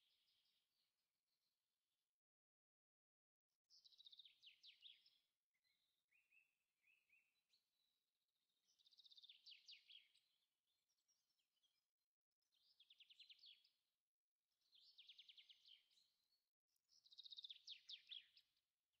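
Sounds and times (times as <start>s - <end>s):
songbird singing: 0.0s - 1.5s, 3.6s - 13.9s, 14.6s - 18.7s.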